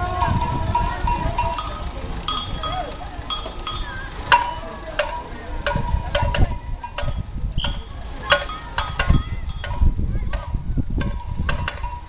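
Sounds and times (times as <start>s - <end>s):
murmur of voices: 0.0s - 12.0s
metallic clinks and knocks: 0.1s - 12.0s.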